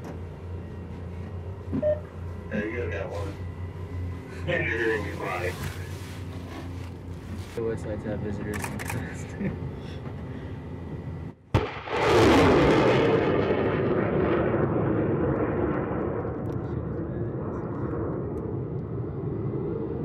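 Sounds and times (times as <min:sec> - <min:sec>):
rocket motor roar: 0:00.0 - 0:20.0.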